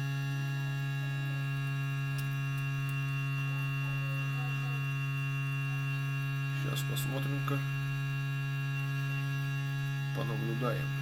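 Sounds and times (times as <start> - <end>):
pump humming: 0.0 - 11.0.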